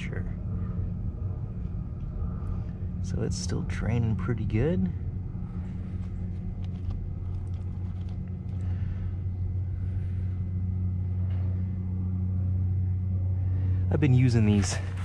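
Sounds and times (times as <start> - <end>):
low hum with rumble: 0.0 - 15.0.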